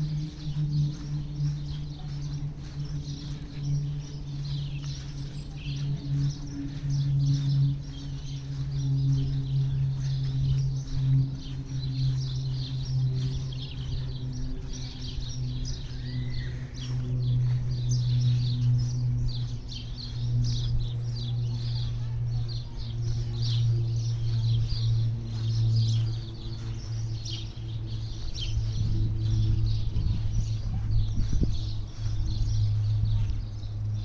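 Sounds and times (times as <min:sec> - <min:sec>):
small birds chirping: 0:00.0 - 0:34.0
steady low hum: 0:00.0 - 0:34.0.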